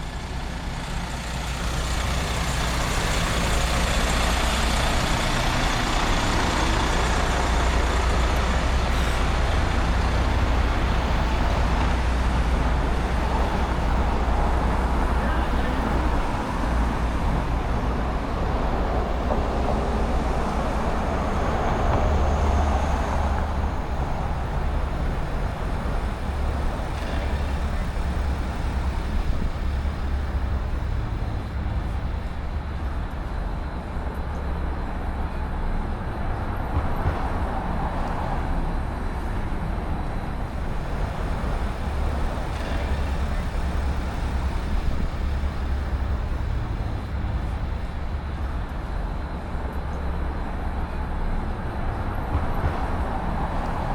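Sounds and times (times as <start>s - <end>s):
street traffic rumble: 0.0s - 53.9s.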